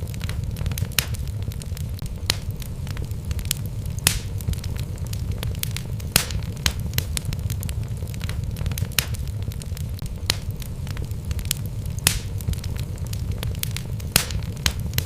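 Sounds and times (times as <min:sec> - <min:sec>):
logs crackling and popping: 0:00.0 - 0:15.0
low rumble of flame: 0:00.0 - 0:15.0.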